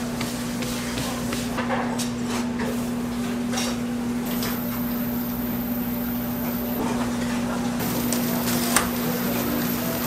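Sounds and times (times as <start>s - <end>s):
kitchen equipment hum: 0.0s - 10.0s.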